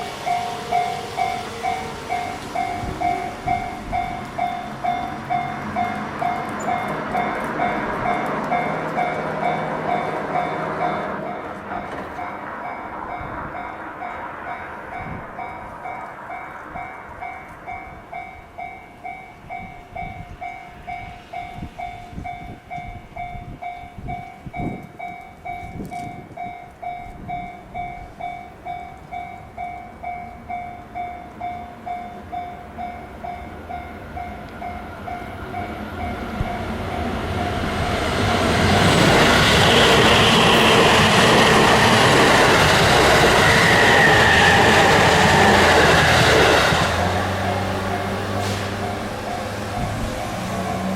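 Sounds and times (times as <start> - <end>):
level crossing warning bell: 0.0 - 44.0, 44.6 - 50.9
train passing: 0.0 - 50.9.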